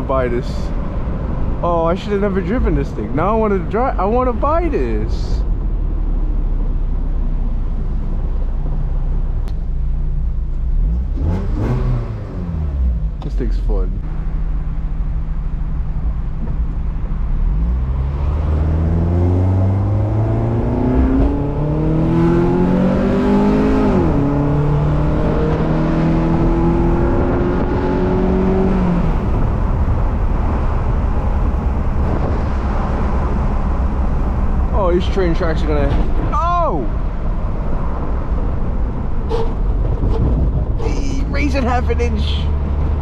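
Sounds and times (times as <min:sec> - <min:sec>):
car engine and exhaust: 0:00.0 - 0:43.0
road and wind noise: 0:00.0 - 0:43.0.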